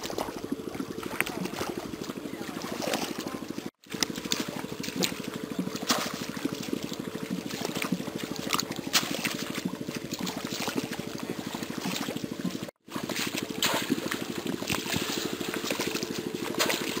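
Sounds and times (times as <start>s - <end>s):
muddy water sloshing and splashing: 0.0s - 17.0s
steady fast low throb: 0.0s - 17.0s.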